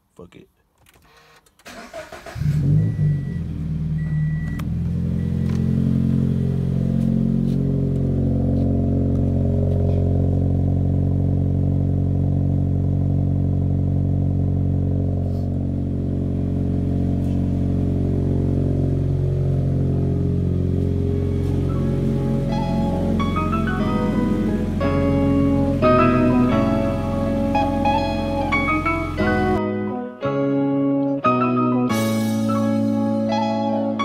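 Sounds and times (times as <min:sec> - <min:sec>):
car engine starting and idling: 0:00.8 - 0:29.6, 0:31.9 - 0:34.0.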